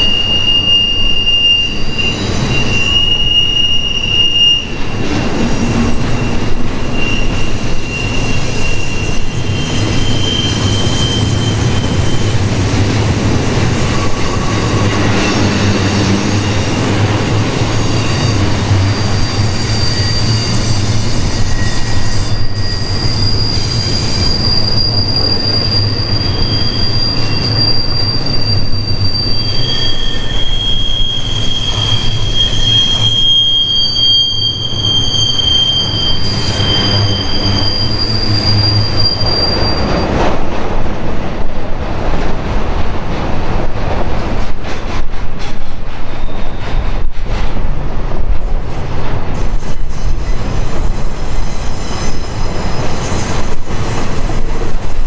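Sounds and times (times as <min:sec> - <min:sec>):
train wheels squealing on rail: 0:00.0 - 0:41.8, 0:44.3 - 0:55.0
train rumbling: 0:00.0 - 0:55.0.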